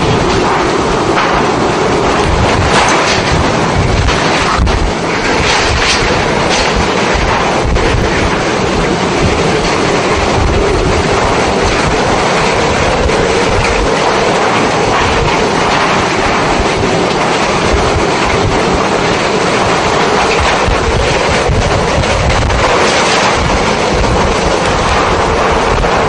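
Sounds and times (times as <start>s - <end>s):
driving rain: 0.0s - 26.0s
hurricane wind: 0.0s - 26.0s.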